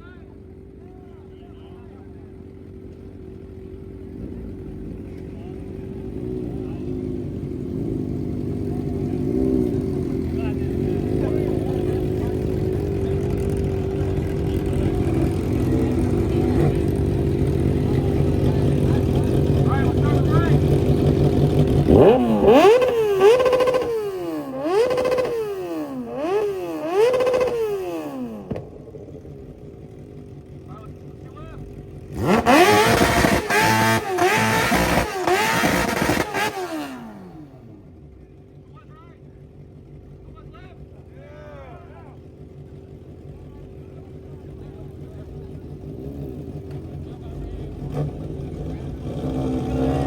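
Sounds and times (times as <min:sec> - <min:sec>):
car engine droning: 0:00.0 - 0:50.0.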